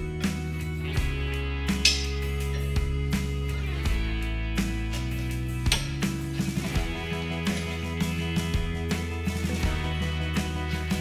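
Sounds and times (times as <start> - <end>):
guitar strumming: 0.0 - 11.0
held bass notes: 0.0 - 11.0.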